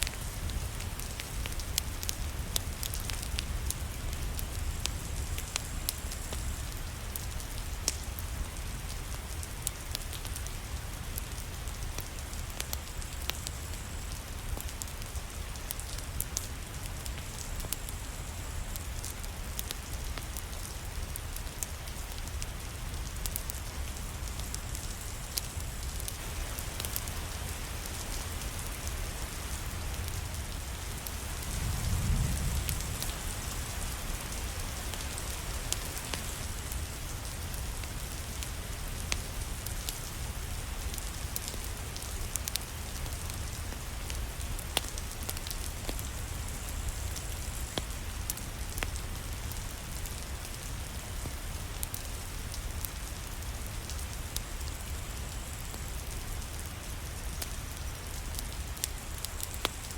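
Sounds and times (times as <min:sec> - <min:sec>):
fireplace crackling: 0:00.0 - 0:59.9
steady rain: 0:00.0 - 0:59.9.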